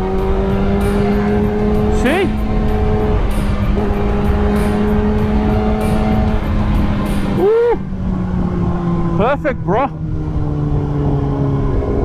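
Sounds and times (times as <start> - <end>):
motorcycle engine revving: 0.0 - 12.0
wind noise: 0.0 - 12.0.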